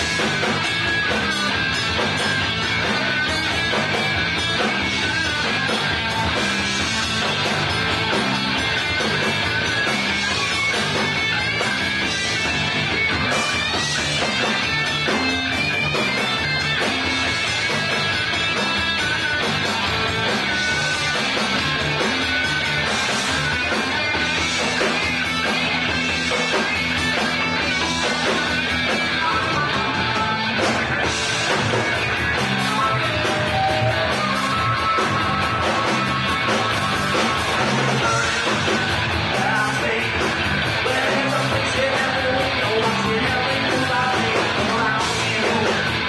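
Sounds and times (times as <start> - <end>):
bass guitar: 0.0 - 46.0
drums: 0.0 - 46.0
electric guitars: 0.0 - 46.0.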